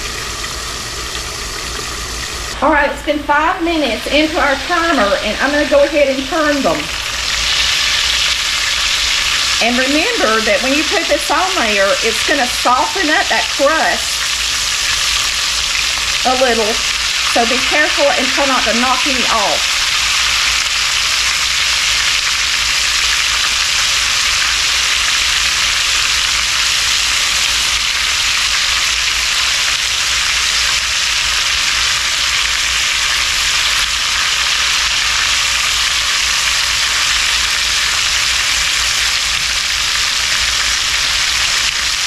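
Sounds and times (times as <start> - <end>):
chicken sizzling in oil: 0.0 - 42.0.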